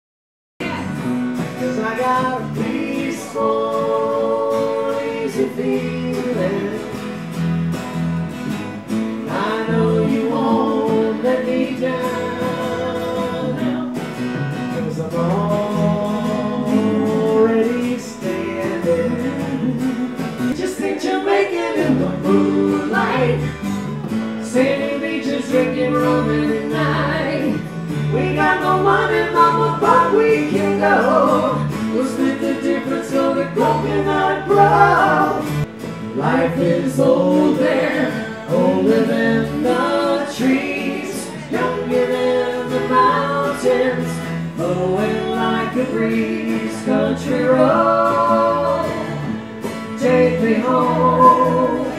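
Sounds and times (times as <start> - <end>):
man and woman singing together: 0.6 - 7.2, 9.2 - 51.9
electric bass: 0.6 - 51.9
strummed acoustic guitars: 0.6 - 51.9.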